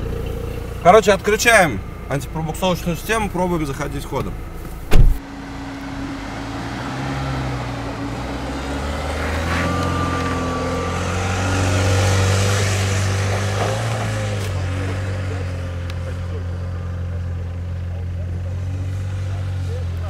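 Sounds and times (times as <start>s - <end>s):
car engine revving under load: 0.0s - 20.0s.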